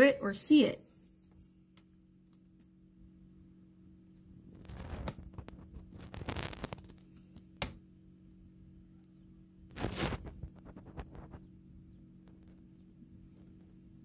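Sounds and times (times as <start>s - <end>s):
incubator humming: 0.0s - 14.0s.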